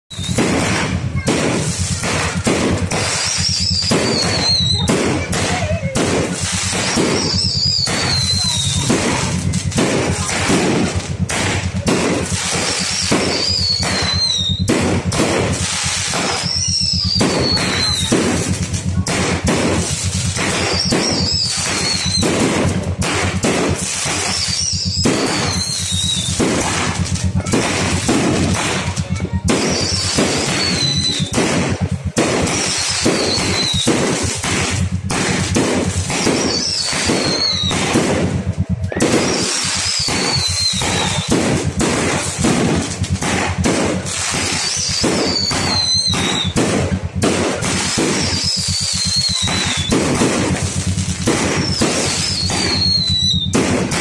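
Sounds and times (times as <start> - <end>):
falling whistle of fireworks: 0.0 - 54.0
fireworks crackling bangs: 0.0 - 54.0.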